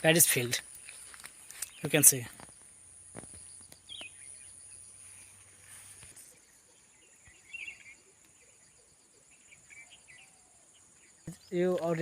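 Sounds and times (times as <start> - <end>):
cricket chirps: 0.0 - 12.0
insects droning: 0.0 - 12.0.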